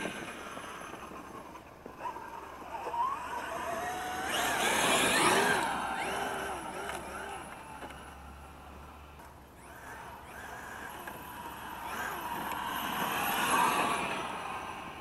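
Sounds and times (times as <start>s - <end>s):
toy car electric motor whining: 0.0s - 15.0s
tyres on gravel: 0.0s - 15.0s.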